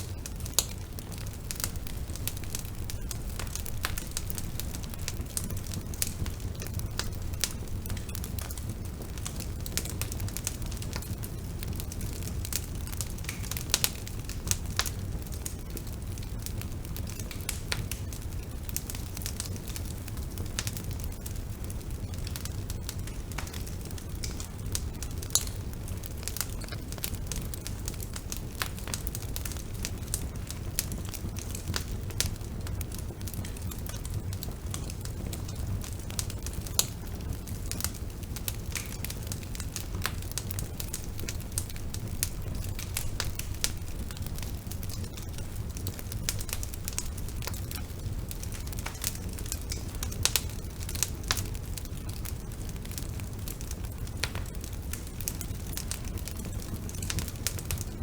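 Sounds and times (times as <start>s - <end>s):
bonfire crackling and popping: 0.0s - 58.0s
low fire rumble: 0.0s - 58.0s.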